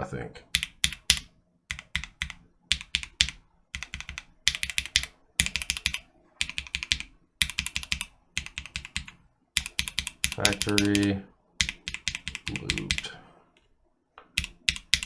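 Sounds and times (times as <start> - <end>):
mechanical keyboard typing: 0.5 - 13.1, 14.3 - 15.0.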